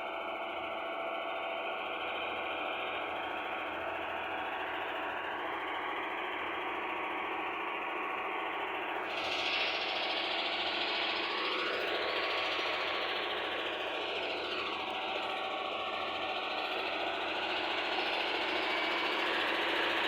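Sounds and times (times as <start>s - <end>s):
heavy machinery engine running: 1.6s - 20.0s.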